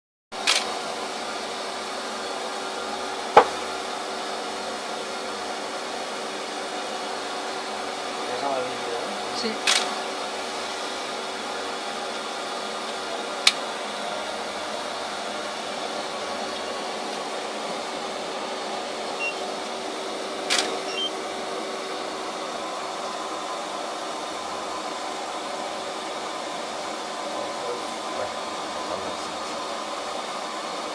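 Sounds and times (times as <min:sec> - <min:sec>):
machine hiss and low hum: 0:00.4 - 0:30.9.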